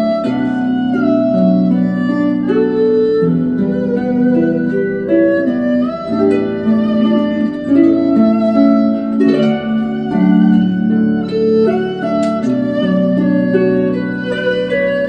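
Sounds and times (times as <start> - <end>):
erhu bowed notes: 0.0 - 15.0
harp plucked notes: 0.0 - 15.0.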